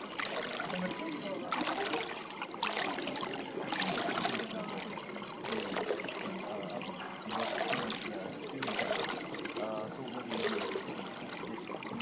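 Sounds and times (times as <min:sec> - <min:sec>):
water trickling down fountain steps: 0:00.0 - 0:12.0.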